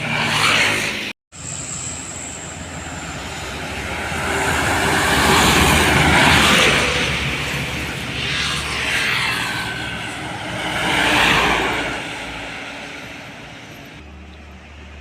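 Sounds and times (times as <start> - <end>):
truck driving past: 1.4 - 15.0.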